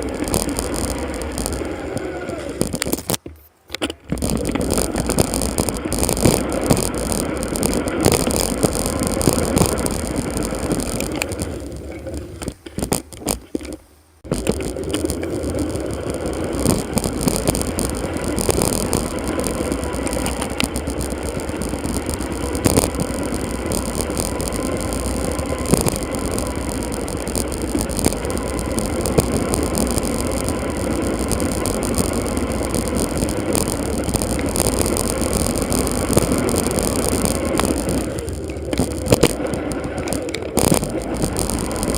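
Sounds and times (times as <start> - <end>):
bicycle rattles and knocks: 0.0 - 41.9
wind and road noise: 0.0 - 41.9.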